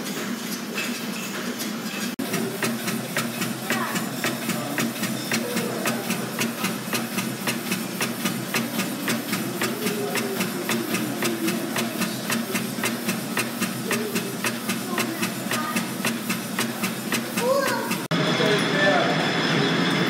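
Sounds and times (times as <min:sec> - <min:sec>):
belt-driven machinery humming and clacking: 0:00.0 - 0:20.0.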